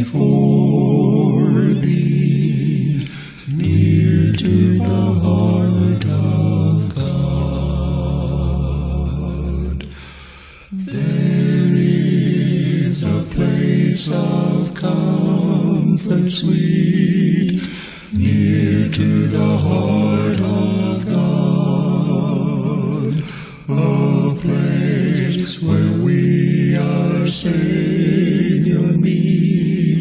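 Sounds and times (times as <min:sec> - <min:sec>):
vocal quartet singing a cappella: 0:00.0 - 0:30.0.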